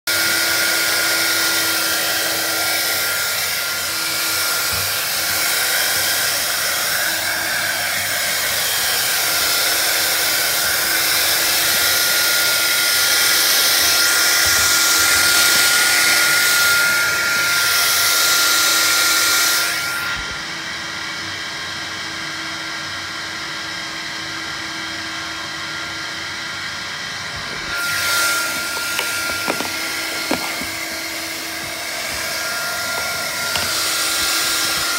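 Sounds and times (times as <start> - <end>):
cordless vacuum cleaner running: 0.1 - 34.9.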